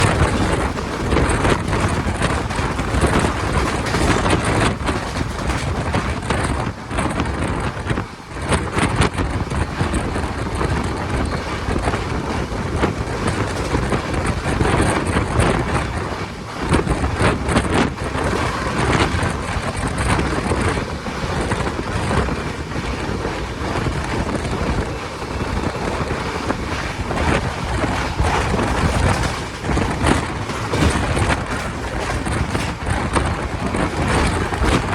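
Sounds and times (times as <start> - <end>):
train wheels on rails: 0.0 - 34.9
wind buffeting microphone: 0.0 - 34.9.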